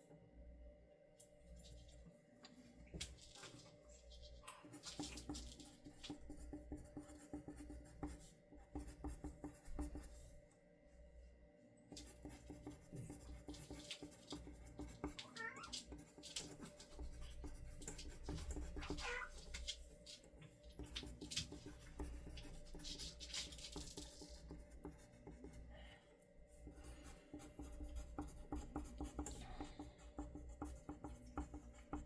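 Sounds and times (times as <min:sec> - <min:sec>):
soft tapping and scratching: 0:01.6 - 0:10.2, 0:11.9 - 0:25.6, 0:26.6 - 0:32.0.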